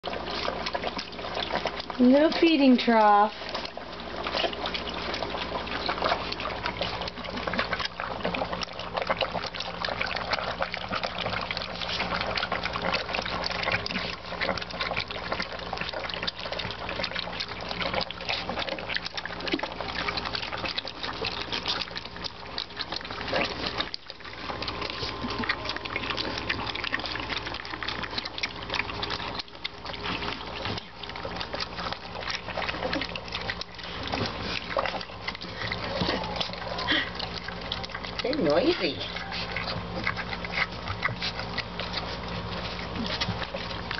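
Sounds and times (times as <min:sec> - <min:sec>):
puppies lapping and slurping milk: 0:00.0 - 0:43.9.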